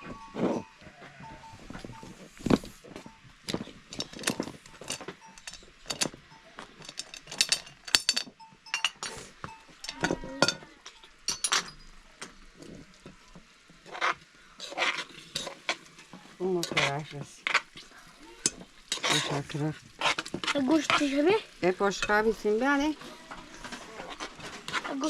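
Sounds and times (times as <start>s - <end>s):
utensils and dishes clinking: 3.0s - 25.0s.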